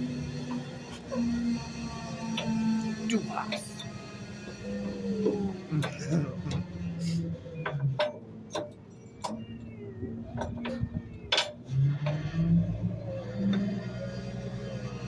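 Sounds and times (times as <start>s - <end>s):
garbage truck low hum: 0.0s - 15.0s.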